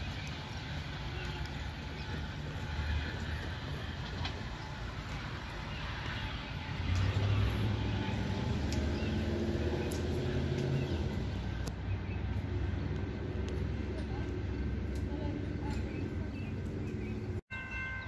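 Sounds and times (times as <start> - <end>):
diesel train rumbling past: 0.0 - 18.0.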